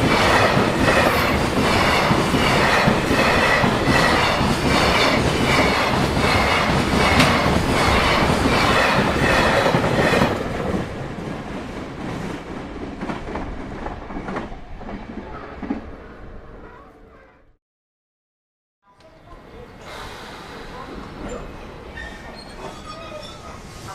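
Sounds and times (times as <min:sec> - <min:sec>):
freight train passing: 0:00.0 - 0:17.3, 0:19.1 - 0:23.9.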